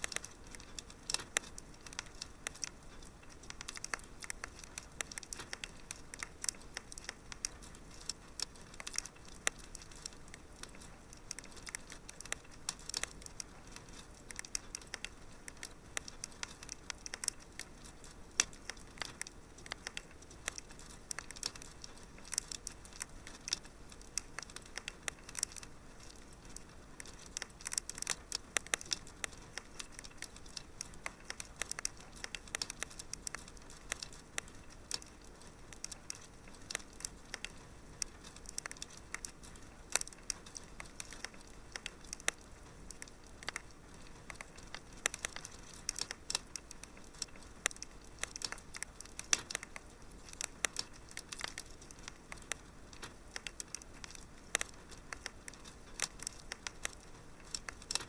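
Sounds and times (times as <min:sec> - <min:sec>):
soft steady hiss: 0:00.0 - 0:58.0
wood fire crackling: 0:00.0 - 0:58.0.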